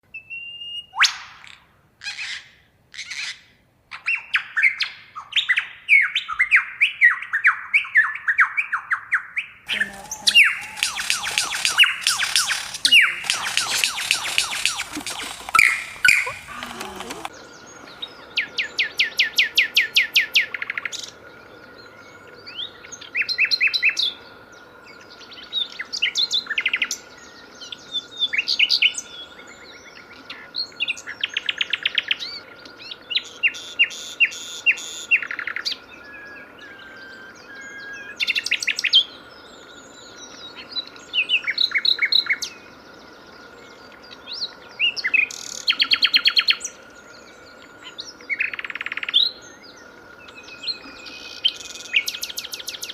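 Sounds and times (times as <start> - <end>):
songbird singing: 0.1 - 1.0, 3.0 - 52.9.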